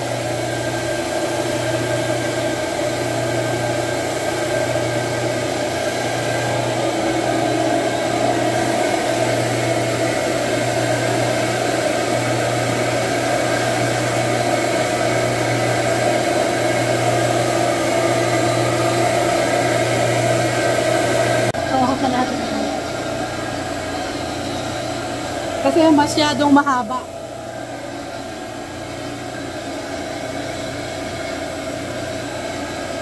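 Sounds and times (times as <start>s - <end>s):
carpet extractor vacuum motor: 0.0s - 33.0s.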